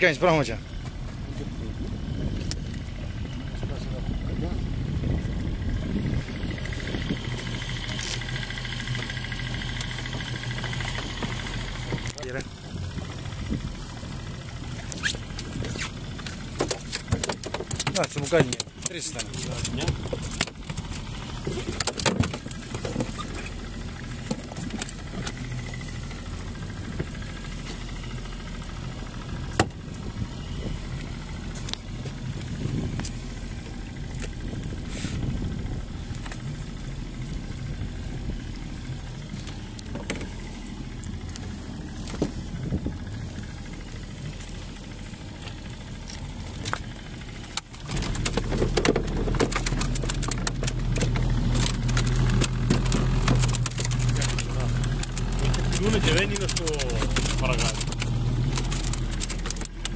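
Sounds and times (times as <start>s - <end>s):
boat engine idling: 0.0s - 59.9s.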